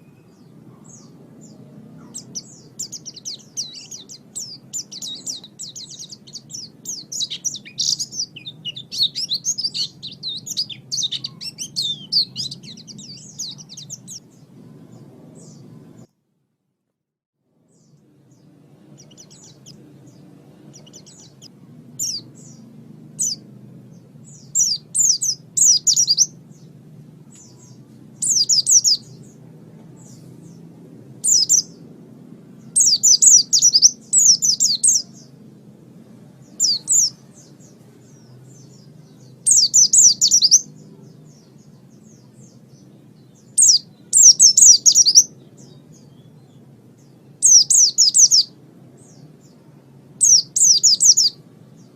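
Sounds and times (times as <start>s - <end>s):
bird twittering: 0.0s - 15.7s, 19.0s - 26.7s, 27.3s - 29.4s, 31.2s - 31.8s, 32.6s - 35.3s, 36.4s - 49.2s, 50.2s - 51.4s
faint low hum: 0.0s - 16.6s, 17.5s - 51.9s.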